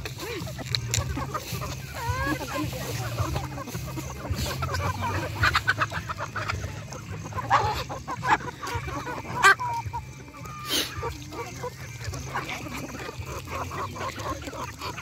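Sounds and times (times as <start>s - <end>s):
poultry clucking and calling: 0.0s - 15.0s.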